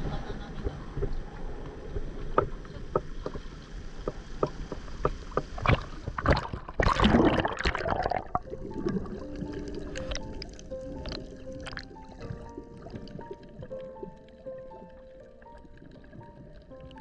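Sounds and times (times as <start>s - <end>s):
water churning and gurgling: 0.0s - 17.0s
sea water sloshing and splashing: 1.9s - 17.0s.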